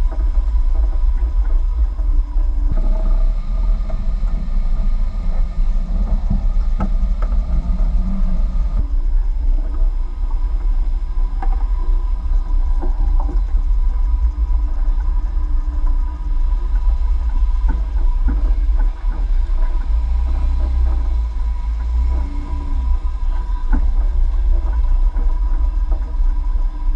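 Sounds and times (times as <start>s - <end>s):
suspension knocks and rattles: 0.0s - 26.9s
vehicle engine and tyres rumbling: 0.0s - 26.9s.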